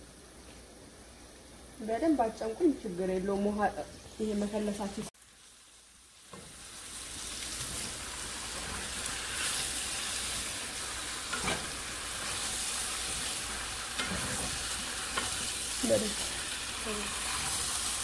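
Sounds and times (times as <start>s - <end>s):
stew sizzling in a pan: 0.0s - 18.0s.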